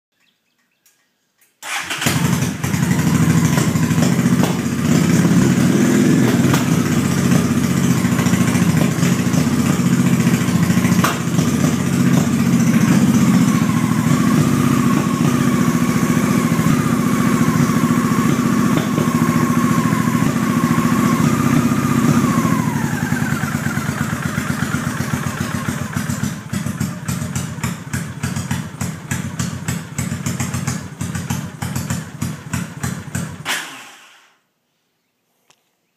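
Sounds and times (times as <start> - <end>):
motorcycle engine cranking: 1.4 - 33.5.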